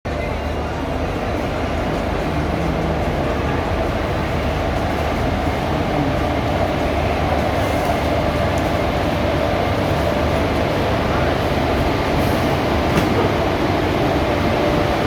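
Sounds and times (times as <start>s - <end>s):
train rumbling: 0.1s - 15.0s.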